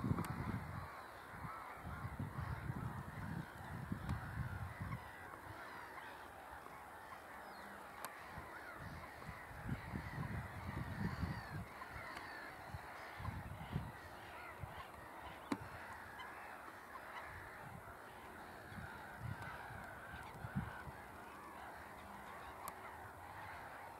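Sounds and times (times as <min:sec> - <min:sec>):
wind rumbling on microphone: 0:00.0 - 0:05.9, 0:08.2 - 0:23.8
distant geese honking: 0:00.0 - 0:23.9.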